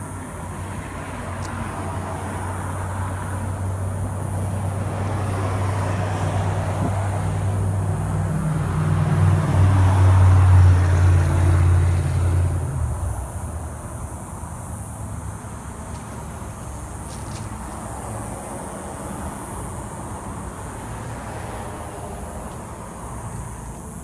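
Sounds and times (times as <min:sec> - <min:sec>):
car exhaust drone passing: 0:00.0 - 0:24.0.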